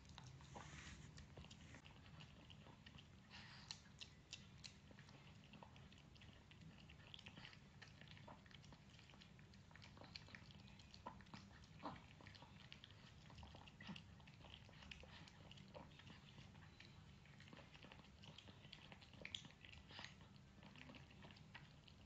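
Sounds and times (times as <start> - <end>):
dog chewing and lapping food: 0.0 - 22.0.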